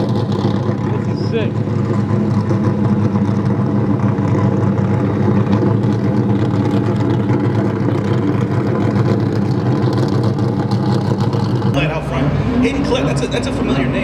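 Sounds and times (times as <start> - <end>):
car engine idling loudly: 0.0 - 14.0.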